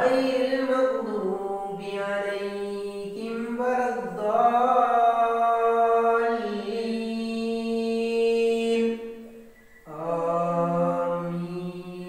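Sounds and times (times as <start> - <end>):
man chanting a prayer: 0.0 - 9.0, 9.9 - 12.0.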